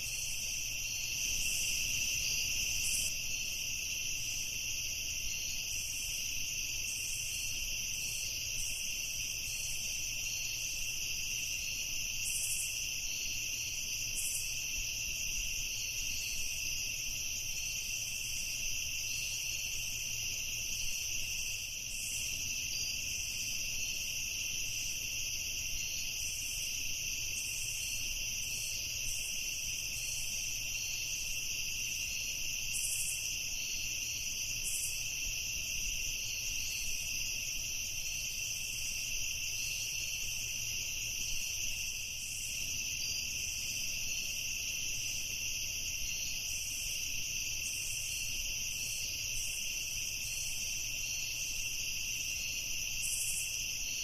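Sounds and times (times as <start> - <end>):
crickets chirring: 0.0 - 54.0.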